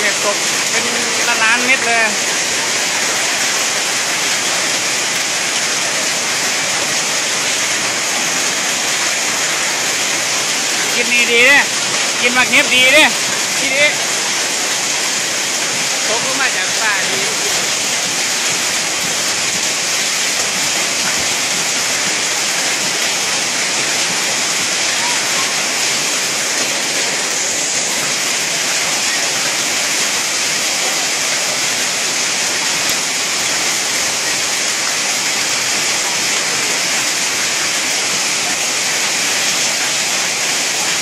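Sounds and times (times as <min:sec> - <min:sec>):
hail and heavy rain pelting: 0:00.0 - 0:41.0.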